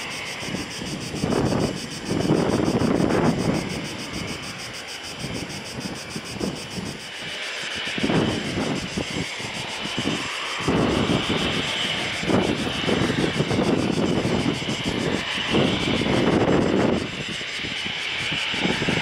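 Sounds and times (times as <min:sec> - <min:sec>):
high engine whine: 0:00.0 - 0:19.0
turboprop engines running: 0:00.0 - 0:19.0
wind buffeting microphone: 0:00.0 - 0:19.0.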